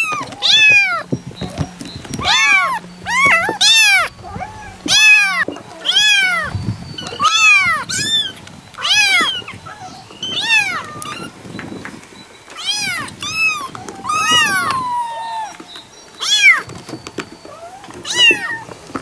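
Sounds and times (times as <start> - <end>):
kitten meowing: 0.0 - 11.4, 12.6 - 18.7.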